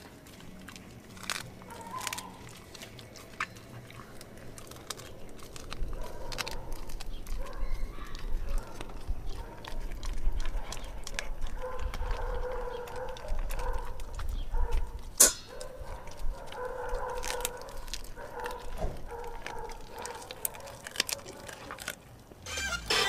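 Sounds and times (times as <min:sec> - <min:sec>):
dog chewing and crunching food: 0:00.0 - 0:23.0.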